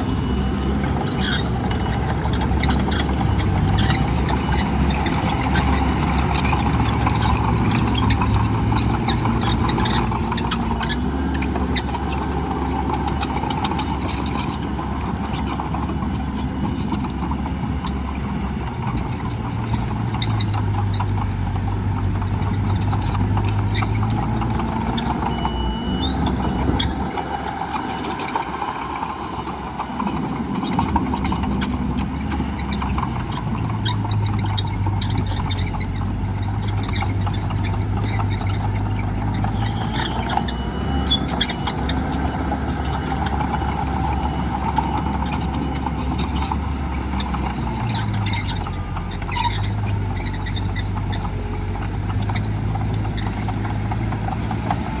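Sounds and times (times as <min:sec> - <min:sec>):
diesel engines revving: 0:00.0 - 0:55.0.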